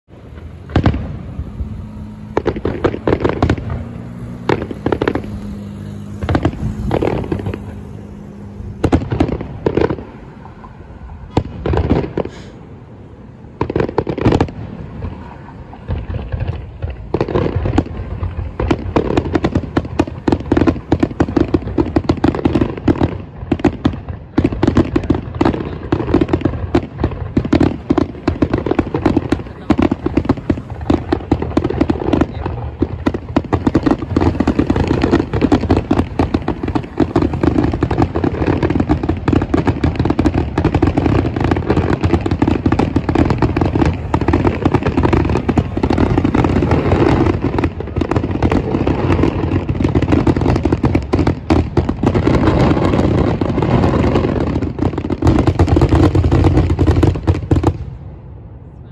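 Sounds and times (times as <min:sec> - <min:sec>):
firework crackling: 0:00.1 - 0:58.5
firework shells bursting: 0:00.2 - 0:10.4, 0:11.3 - 0:12.7, 0:13.6 - 0:57.9.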